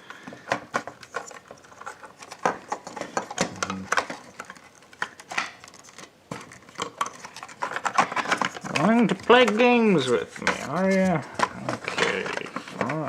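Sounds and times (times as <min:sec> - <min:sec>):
plastic parts clicking: 0:00.0 - 0:13.0.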